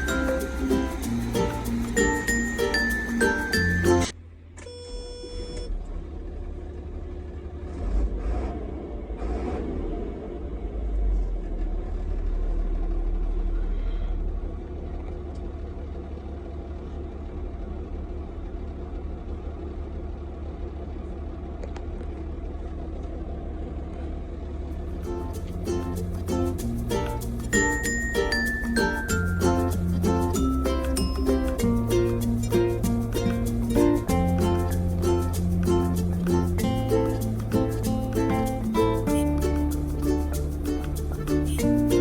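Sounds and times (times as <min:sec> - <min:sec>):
truck engine rumbling: 0:00.0 - 0:04.5, 0:05.6 - 0:42.0.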